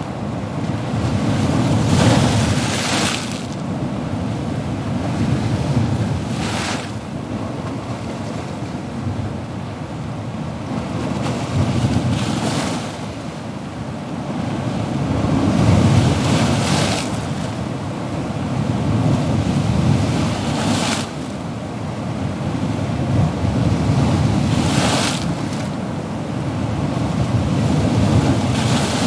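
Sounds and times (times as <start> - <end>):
ocean waves washing: 0.0 - 7.1, 10.8 - 29.0.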